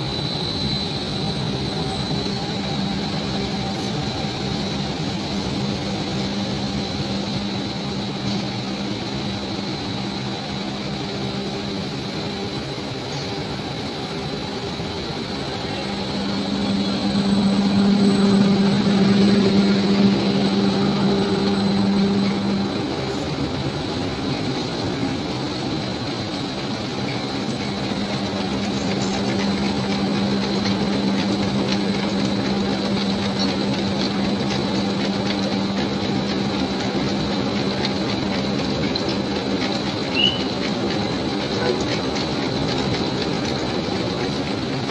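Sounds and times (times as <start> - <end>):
machinery droning with whine: 0.0 - 44.9
steady low hum: 0.0 - 44.9.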